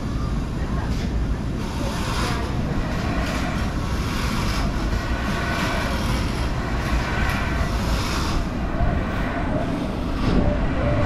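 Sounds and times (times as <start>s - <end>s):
amusement ride rumbling and rushing: 0.0s - 11.0s.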